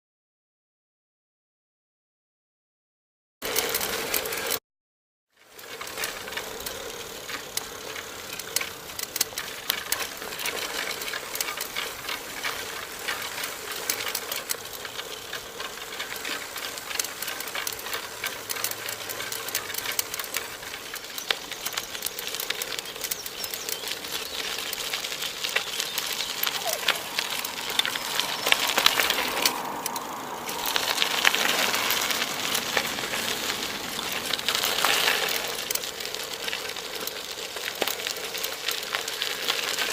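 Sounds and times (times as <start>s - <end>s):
bicycle rattling and clicking: 3.4s - 4.6s, 5.4s - 39.9s.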